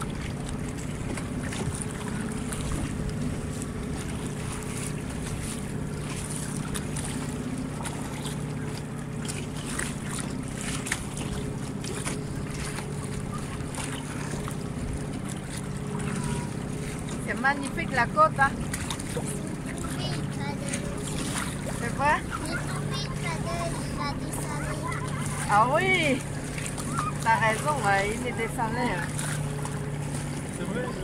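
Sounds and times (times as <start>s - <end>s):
steady low hum: 0.0s - 31.0s
water splashing against boat hull: 0.0s - 31.0s.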